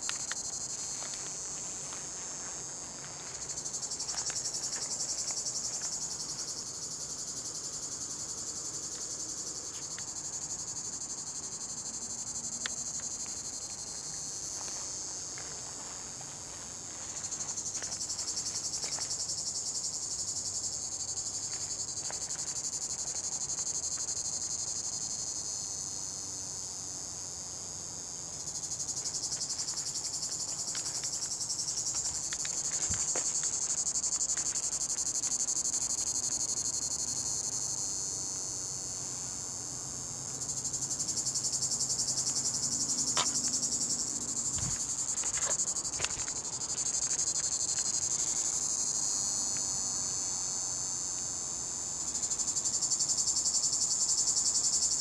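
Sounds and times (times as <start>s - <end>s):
cicada high-pitched buzz: 0.0s - 55.0s.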